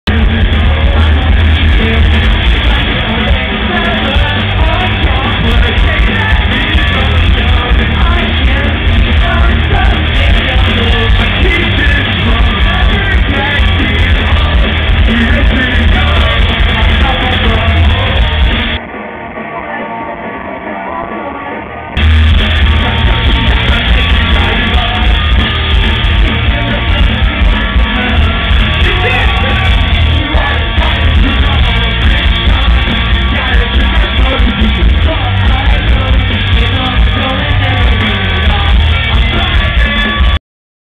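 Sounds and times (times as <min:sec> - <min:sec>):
live pop-punk band playing: 0:00.0 - 0:40.4
sung and yelled vocals: 0:00.1 - 0:40.4.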